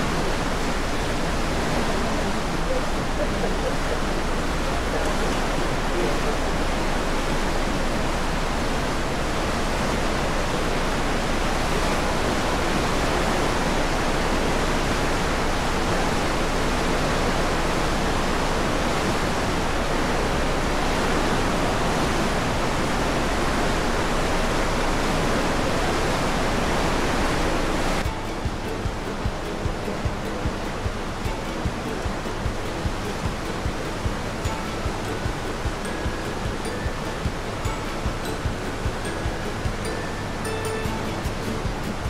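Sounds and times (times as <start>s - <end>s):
ship wake churning: 0.0s - 42.0s
wind on microphone: 0.0s - 42.0s.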